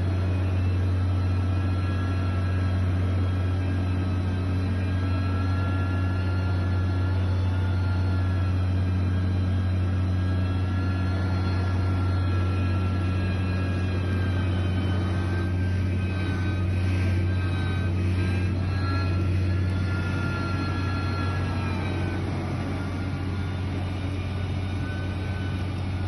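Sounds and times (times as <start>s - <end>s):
faint thin whining tones: 0.0s - 26.0s
heavy machinery engine droning: 0.0s - 26.0s.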